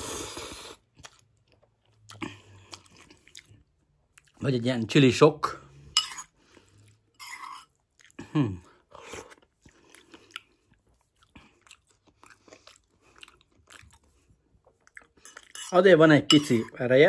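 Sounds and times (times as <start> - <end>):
person chewing noodles: 0.0 - 4.4, 6.2 - 15.7.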